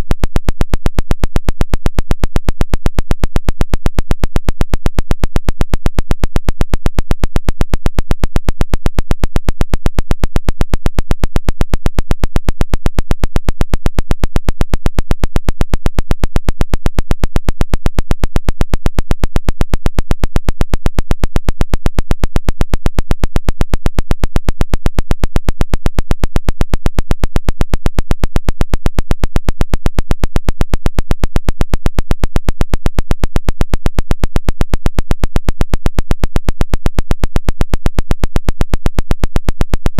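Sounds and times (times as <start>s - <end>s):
rapid harsh clicking signal: 0.0s - 39.9s.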